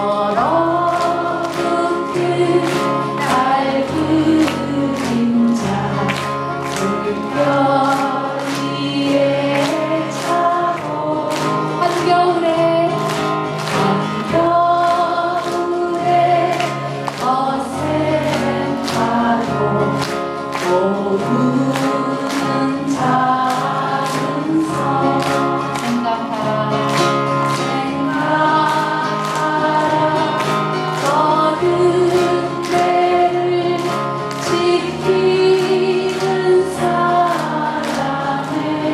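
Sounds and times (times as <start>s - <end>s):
voices singing folk song: 0.0s - 38.9s.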